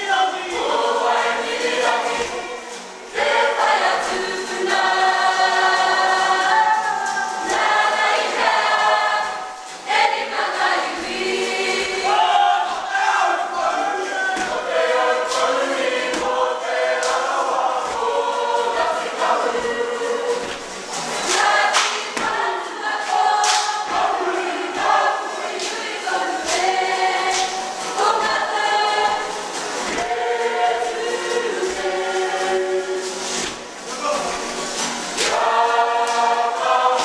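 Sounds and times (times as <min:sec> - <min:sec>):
group singing in unison: 0:00.0 - 0:37.0.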